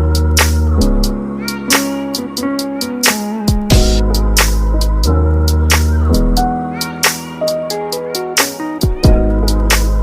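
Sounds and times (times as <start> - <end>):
steady beat with hi-hat: 0.0 - 10.0.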